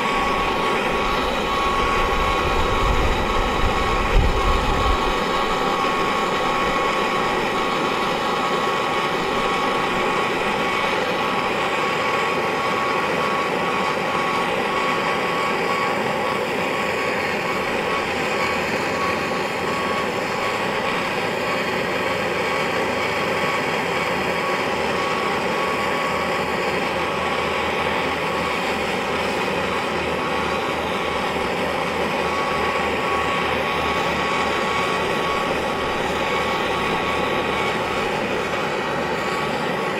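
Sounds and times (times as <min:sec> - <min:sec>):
torch flame hissing and whistling: 0:00.0 - 0:39.9.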